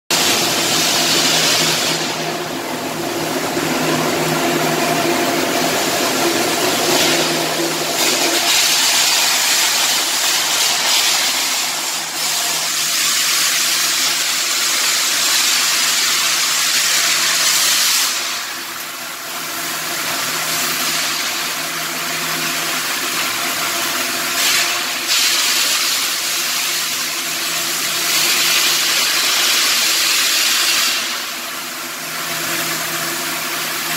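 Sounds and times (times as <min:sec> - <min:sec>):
arc welding hiss: 0:00.1 - 0:02.4, 0:06.8 - 0:22.4, 0:23.1 - 0:33.1
welding machine hum: 0:00.1 - 0:33.9.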